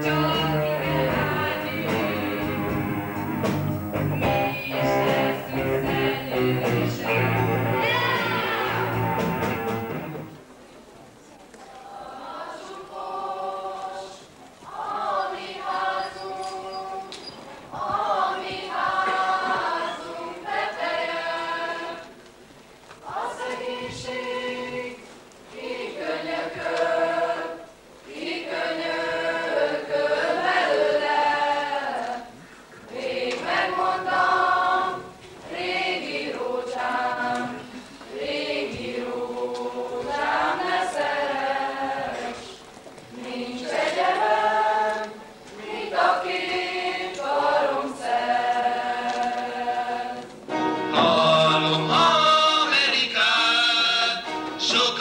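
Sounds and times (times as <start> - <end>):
choir singing slow song: 0.0 - 10.4, 11.8 - 22.4, 23.0 - 55.0.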